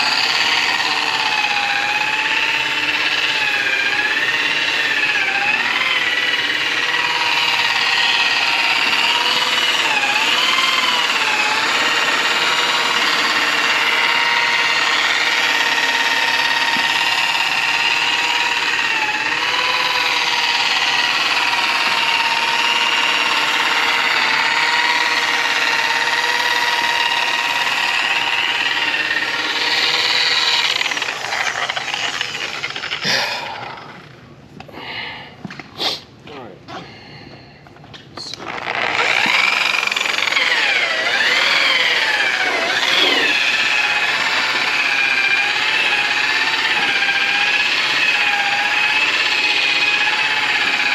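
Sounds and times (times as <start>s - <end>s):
electric polisher motor whine: 0.0s - 34.2s, 38.4s - 50.9s.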